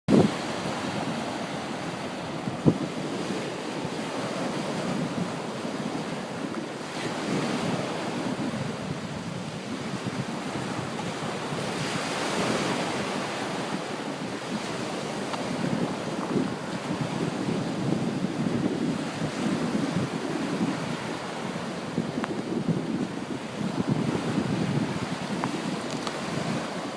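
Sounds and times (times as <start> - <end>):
small waves washing on beach: 0.1 - 26.9
wind buffeting microphone: 0.1 - 26.9.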